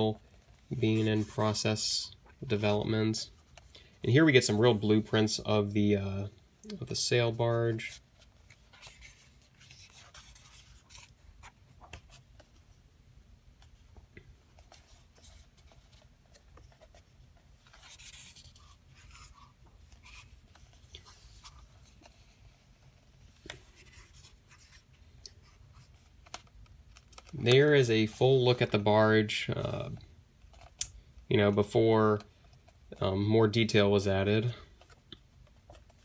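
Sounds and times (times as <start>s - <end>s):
paper rustling and pages turning: 0.0s - 5.4s, 7.0s - 12.8s, 13.6s - 36.0s.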